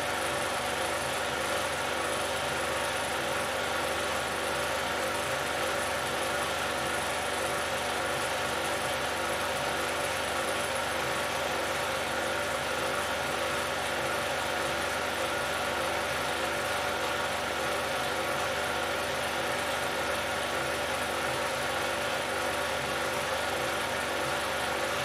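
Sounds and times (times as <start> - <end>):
film projector whirring: 0.0 - 25.0.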